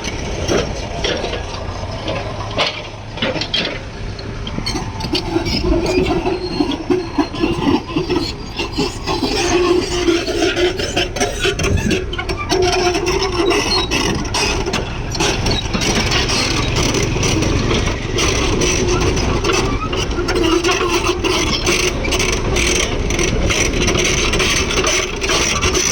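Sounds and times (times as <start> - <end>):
diesel engine under load: 0.0 - 25.9
grating scrape of digging: 4.5 - 25.9.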